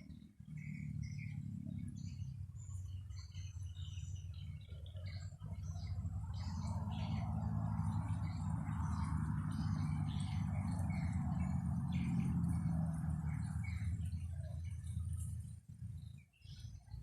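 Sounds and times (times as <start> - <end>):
small birds chirping: 0.0 - 17.0
wind rumble on microphone: 0.0 - 17.0.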